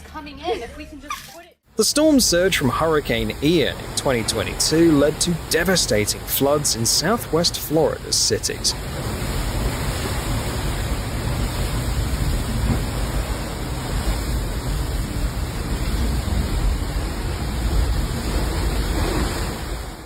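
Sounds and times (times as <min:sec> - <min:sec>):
floodwater rushing: 0:01.8 - 0:20.0
hurricane wind rushing: 0:01.8 - 0:20.0.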